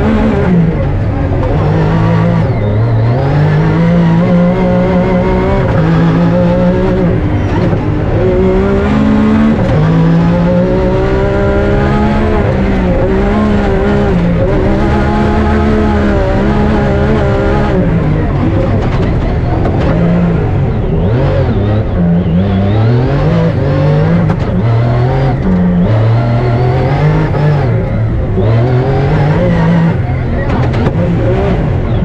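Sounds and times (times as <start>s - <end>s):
car engine revving through gears: 0.0s - 32.0s.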